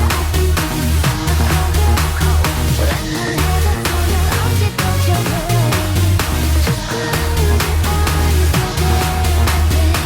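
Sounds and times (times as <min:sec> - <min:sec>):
electronic dance-pop music: 0:00.0 - 0:10.0.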